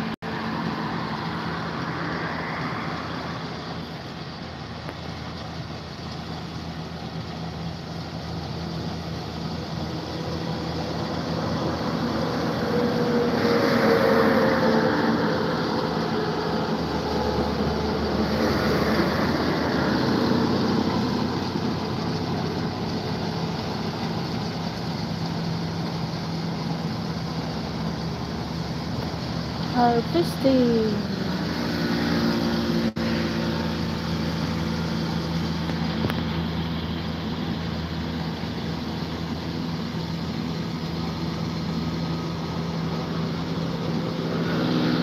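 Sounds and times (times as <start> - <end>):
combine harvester engine running: 0.0 - 45.0.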